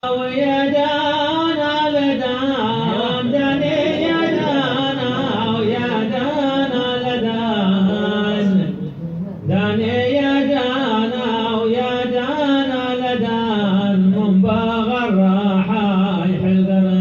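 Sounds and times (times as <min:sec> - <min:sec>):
men singing melismatic lines: 0:00.1 - 0:15.4.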